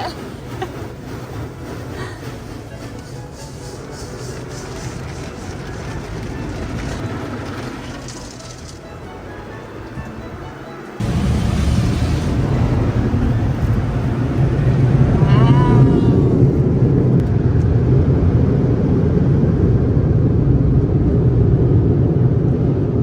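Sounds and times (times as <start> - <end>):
car wash machinery rumbling: 0.0 - 23.0.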